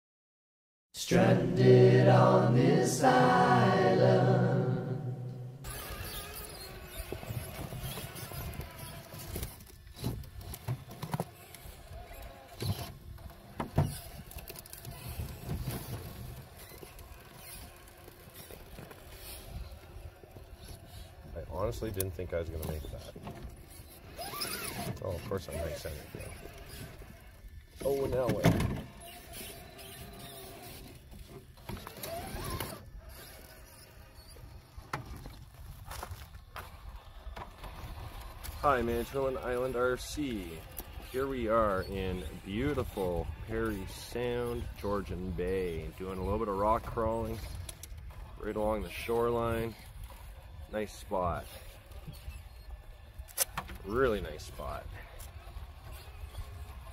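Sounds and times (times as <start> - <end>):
electric drivetrain whirring: 5.6 - 56.9.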